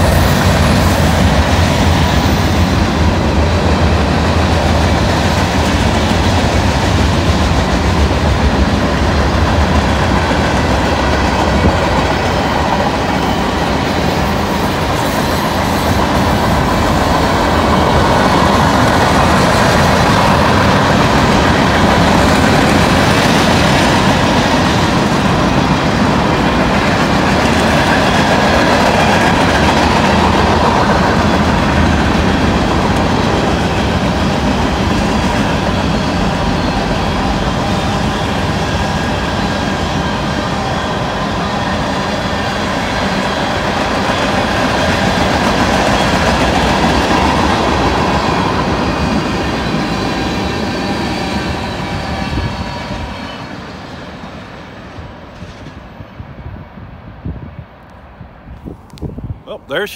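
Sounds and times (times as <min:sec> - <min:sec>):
freight train wheels rolling: 0:00.0 - 0:56.4.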